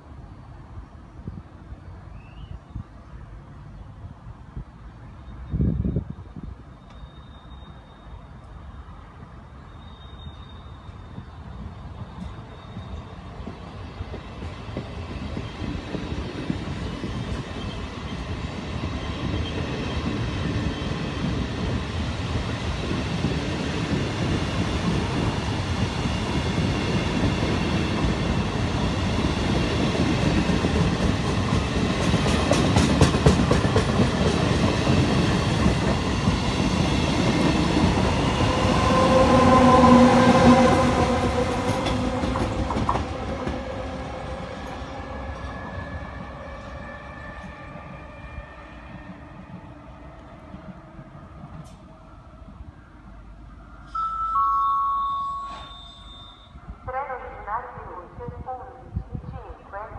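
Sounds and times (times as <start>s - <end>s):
train passing: 3.0s - 59.9s.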